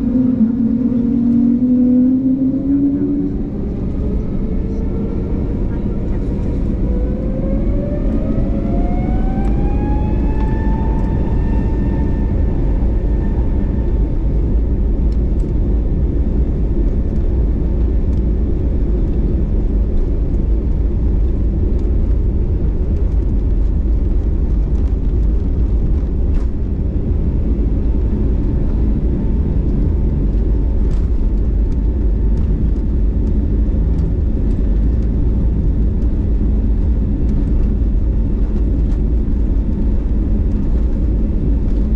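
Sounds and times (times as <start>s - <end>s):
engine and runway rumble: 0.0s - 41.9s
jet engine whine: 0.0s - 41.9s.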